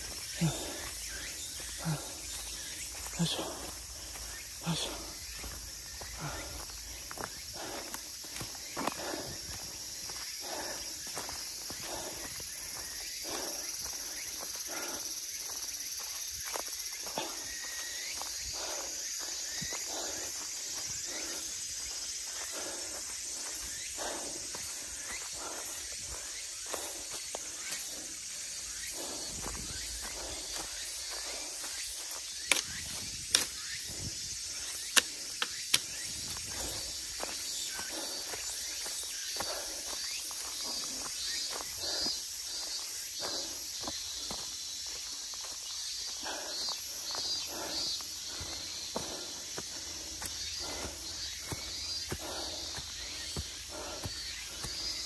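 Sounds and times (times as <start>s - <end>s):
footsteps on a forest trail: 0.0s - 55.0s
insects buzzing: 0.0s - 55.0s
steady high-pitched hiss: 0.0s - 55.0s.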